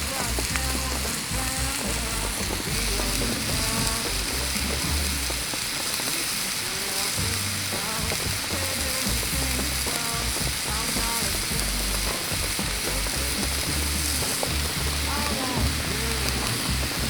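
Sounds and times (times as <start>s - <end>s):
steak sizzling: 0.0s - 17.0s.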